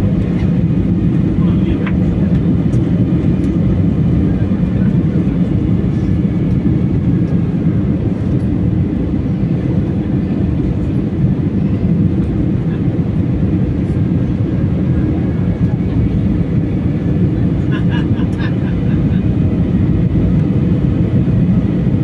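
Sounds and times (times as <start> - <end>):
airliner engines rumbling in cabin: 0.0 - 22.0.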